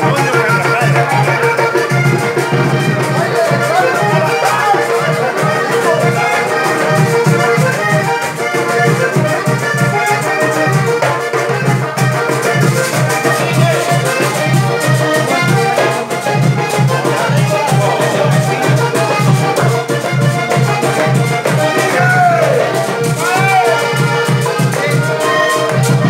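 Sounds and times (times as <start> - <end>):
accordion music: 0.0 - 26.0
steady beat: 0.0 - 26.0.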